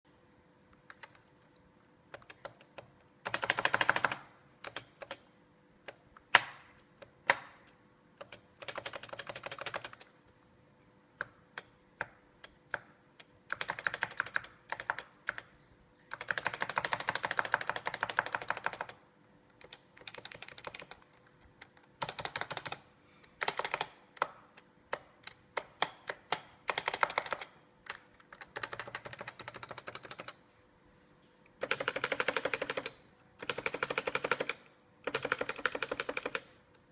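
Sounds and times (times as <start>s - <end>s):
keyboard typing: 0.8s - 5.2s, 5.8s - 10.2s, 11.2s - 15.5s, 16.1s - 30.4s, 31.6s - 36.6s.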